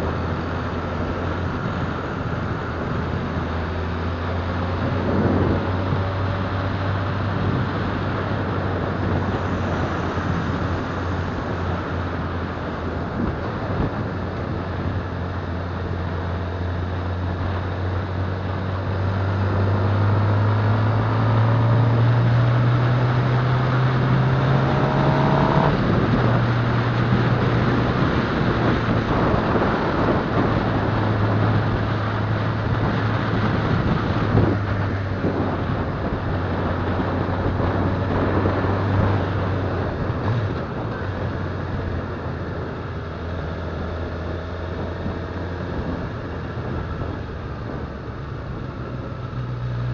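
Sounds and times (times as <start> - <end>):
motorcycle engine accelerating: 0.0 - 49.9
wind and road noise: 0.0 - 49.9.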